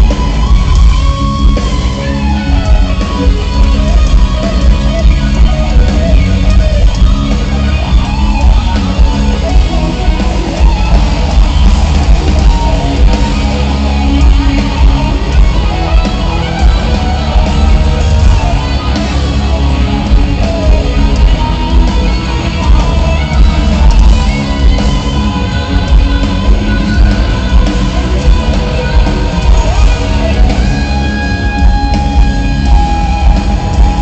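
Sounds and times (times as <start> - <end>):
bass guitar: 0.0 - 34.0
distorted electric guitars: 0.0 - 34.0
drums: 0.0 - 34.0.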